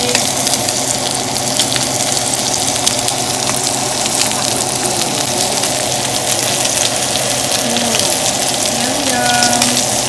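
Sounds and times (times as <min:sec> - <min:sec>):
steak sizzling in a pan: 0:00.0 - 0:10.0.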